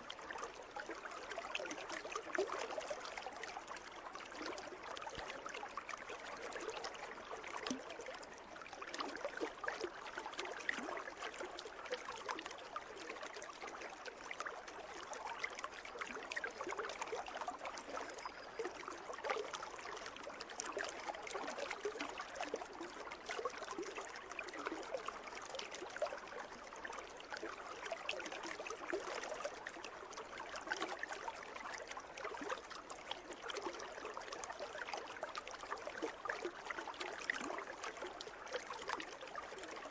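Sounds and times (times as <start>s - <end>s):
pool water trickling and splashing: 0.0s - 39.9s.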